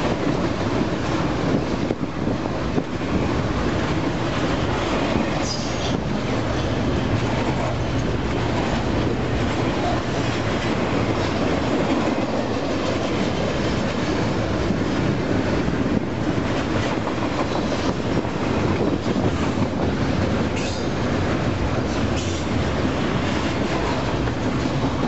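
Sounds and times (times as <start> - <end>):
steel wheels rolling on rail: 0.0 - 25.0
train clicks: 0.0 - 25.0.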